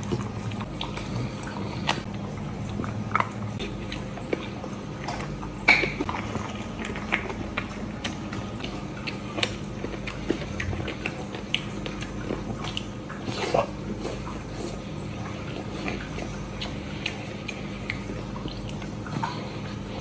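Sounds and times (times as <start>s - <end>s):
chewing and lip smacking: 0.0s - 20.0s.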